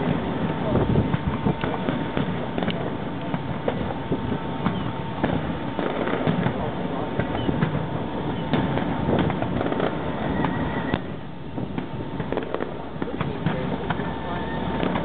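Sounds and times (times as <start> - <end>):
continuous rumble: 0.0 - 15.0
distant fireworks bangs and crackles: 0.0 - 15.0.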